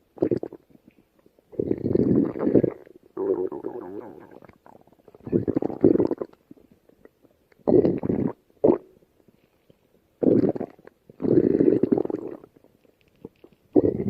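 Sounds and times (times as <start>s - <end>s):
stomach growling: 0.2s - 9.0s, 10.2s - 14.0s.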